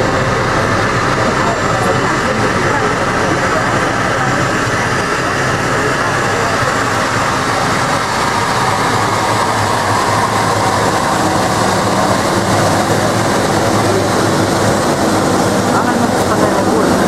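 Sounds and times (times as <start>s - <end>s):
jet engines rumbling and hissing: 0.0s - 17.0s.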